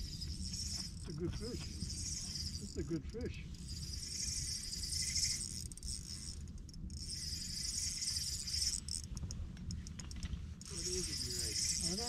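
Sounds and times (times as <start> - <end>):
fishing reel whirring: 0.0 - 12.0
low steady rumble: 0.0 - 12.0.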